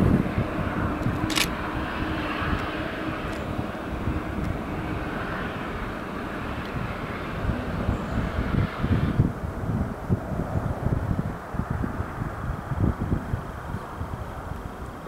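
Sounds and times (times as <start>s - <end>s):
distant engine drone: 0.0s - 15.0s
wind rumble on microphone: 0.0s - 15.0s.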